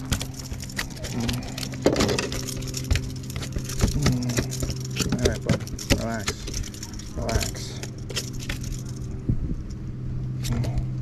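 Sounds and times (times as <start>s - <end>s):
fishing tackle clicks and knocks: 0.0s - 9.1s
motor humming: 0.0s - 11.0s.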